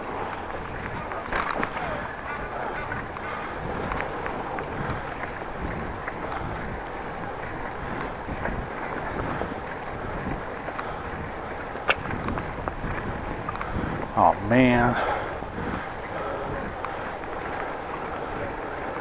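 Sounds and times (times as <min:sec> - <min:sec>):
bicycle tyre noise: 0:00.0 - 0:19.0
wind rush on microphone: 0:00.0 - 0:19.0.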